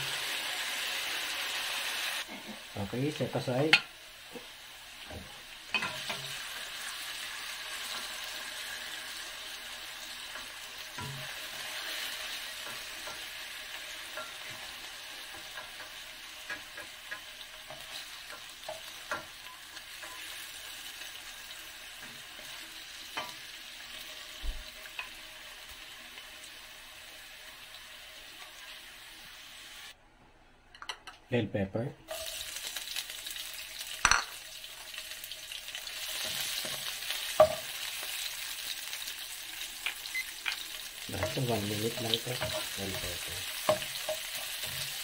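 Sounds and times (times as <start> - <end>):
potato strips sizzling in oil: 0.0 - 30.0, 32.1 - 45.0.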